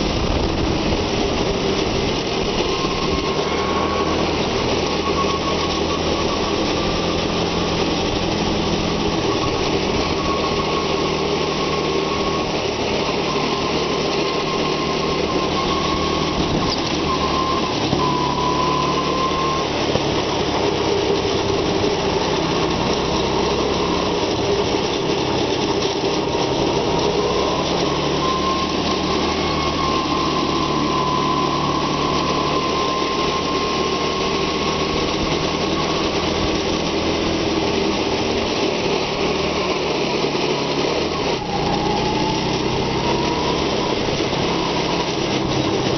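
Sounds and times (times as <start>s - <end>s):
go-kart engine running: 0.0s - 45.9s.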